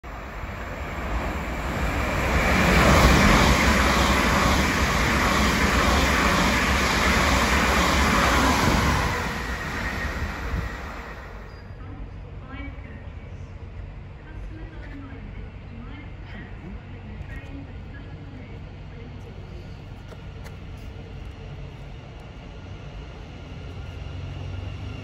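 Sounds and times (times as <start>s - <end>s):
train wheels on rail: 0.0s - 11.9s, 16.2s - 25.0s.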